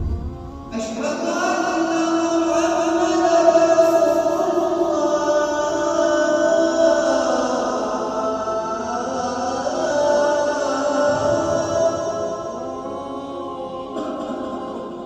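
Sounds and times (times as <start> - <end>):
man chanting call to prayer: 0.7 - 15.0.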